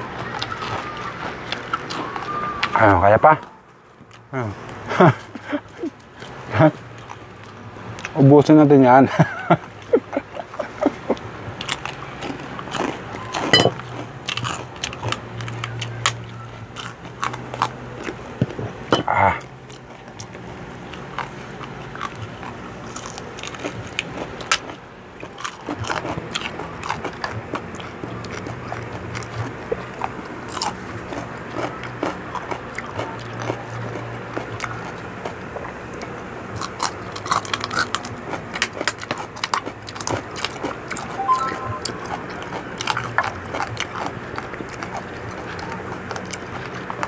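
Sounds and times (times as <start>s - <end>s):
crunching and chewing: 0.0s - 47.0s.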